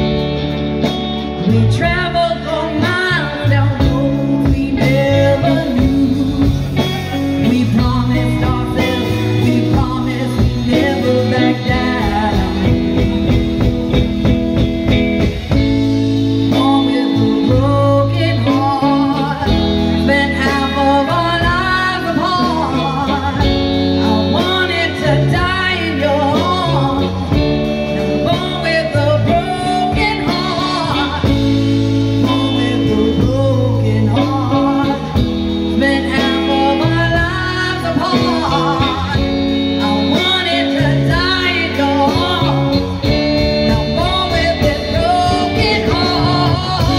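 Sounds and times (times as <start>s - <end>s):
drums: 0.0s - 46.9s
electric bass: 0.0s - 46.9s
electric guitar: 0.0s - 46.9s
woman singing: 0.1s - 46.9s.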